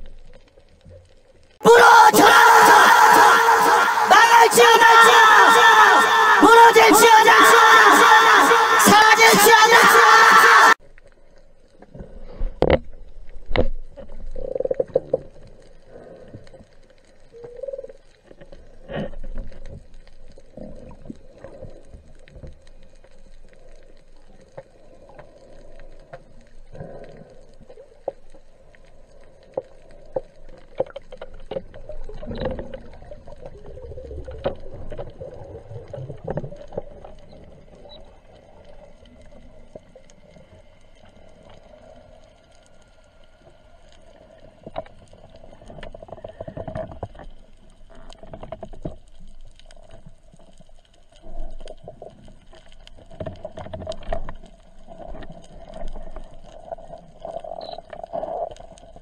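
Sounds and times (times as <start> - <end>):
underwater moving water: 0.0 - 59.0.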